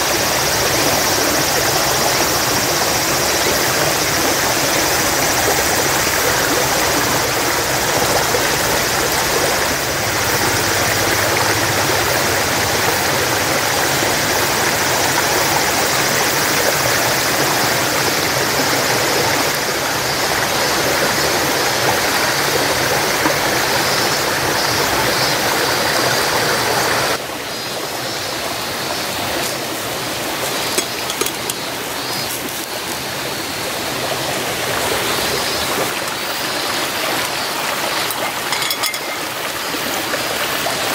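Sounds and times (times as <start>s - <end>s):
stream rushing water: 0.0s - 40.9s.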